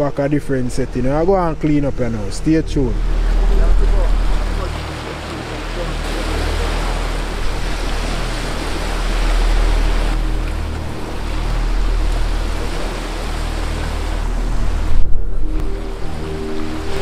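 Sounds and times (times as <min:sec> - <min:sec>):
deep rumble: 0:00.0 - 0:17.0
waves washing over rocks: 0:00.0 - 0:17.0.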